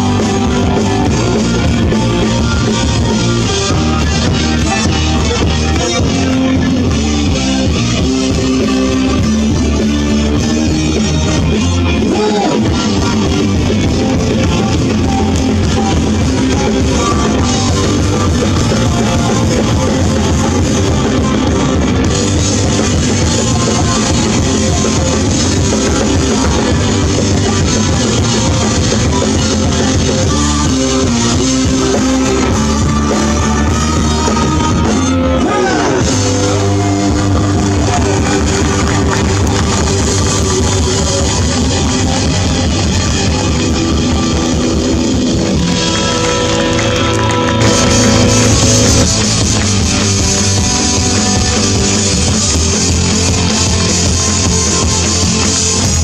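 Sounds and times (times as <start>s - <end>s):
drum kit beat: 0.0s - 56.0s
electric guitar: 0.0s - 56.0s.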